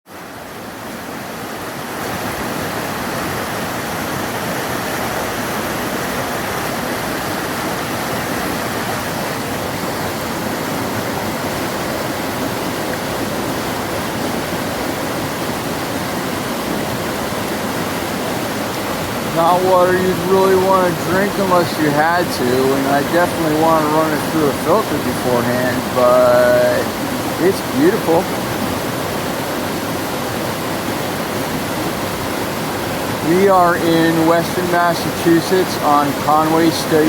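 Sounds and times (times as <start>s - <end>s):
waterfall pouring: 0.3s - 37.0s.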